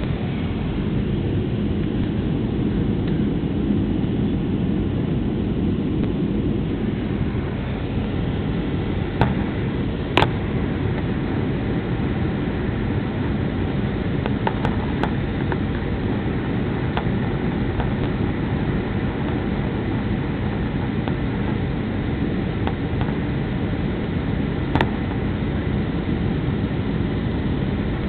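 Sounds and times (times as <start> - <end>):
airliner cabin engine noise: 0.0 - 28.0.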